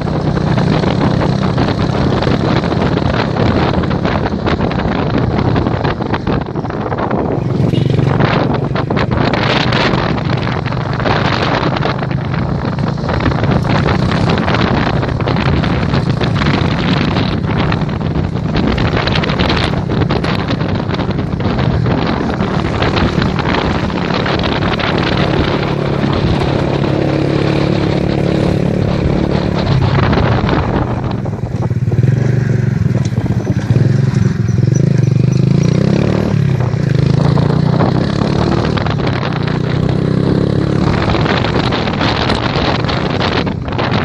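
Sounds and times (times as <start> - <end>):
vehicle engine running: 0.0 - 44.0
wind buffeting microphone: 0.0 - 44.0.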